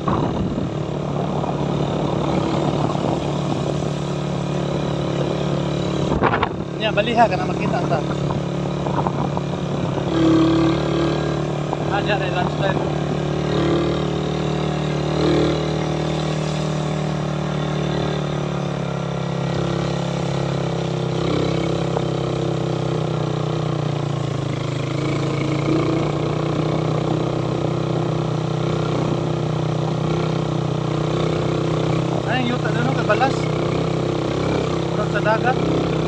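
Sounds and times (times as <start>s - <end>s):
motorcycle engine running: 0.0s - 36.0s
wind and road noise hiss: 0.0s - 36.0s.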